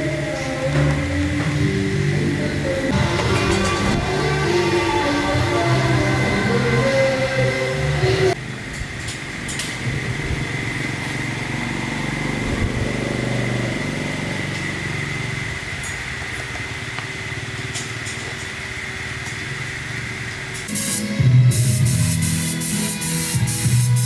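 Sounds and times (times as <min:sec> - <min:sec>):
small motorcycle engine idling: 0:00.0 - 0:24.0.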